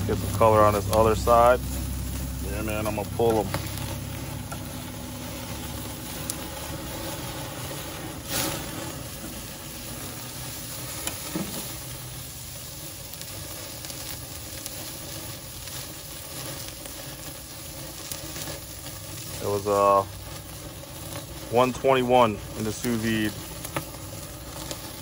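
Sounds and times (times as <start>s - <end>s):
steaks sizzling over charcoal: 0.0s - 25.0s.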